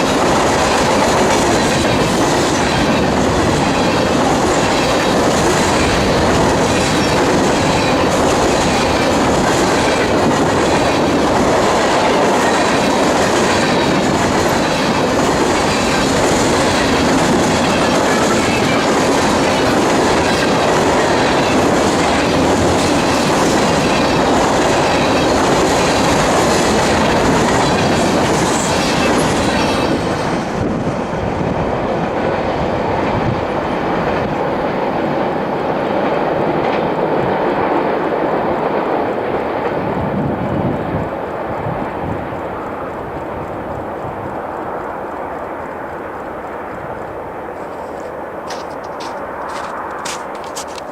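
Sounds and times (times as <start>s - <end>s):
wheels clicking over rail joints: 0.0s - 30.8s, 31.6s - 50.9s
freight train rolling past: 0.0s - 50.9s.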